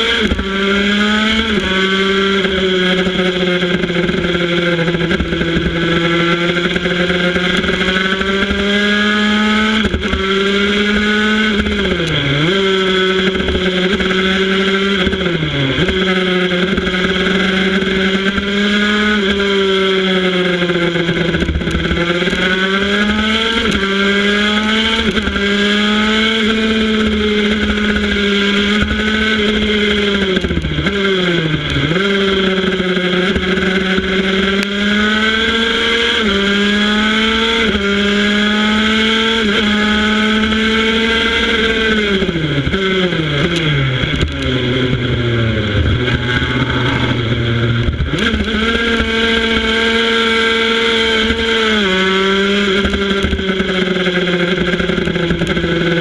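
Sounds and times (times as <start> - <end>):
racing motorcycle engine: 0.0 - 56.0.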